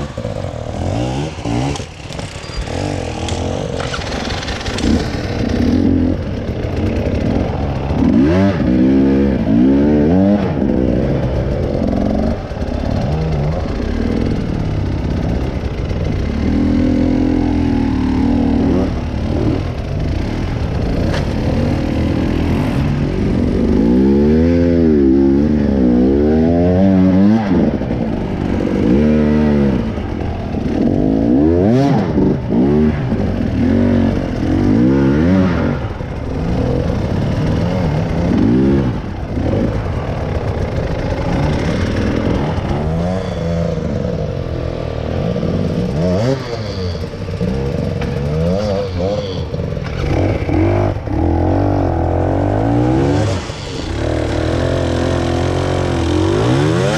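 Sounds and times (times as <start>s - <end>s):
clatter: 0.0s - 56.9s
off-road vehicle engine revving: 0.0s - 56.9s.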